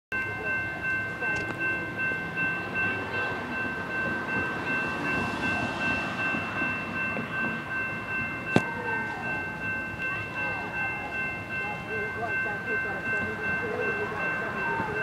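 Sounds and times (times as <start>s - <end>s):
crossing warning bell ringing: 0.1s - 15.0s
train rumble: 0.2s - 15.0s.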